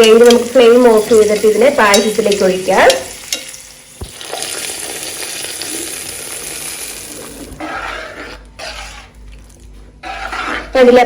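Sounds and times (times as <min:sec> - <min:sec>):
frying food sizzling: 0:00.0 - 0:09.6.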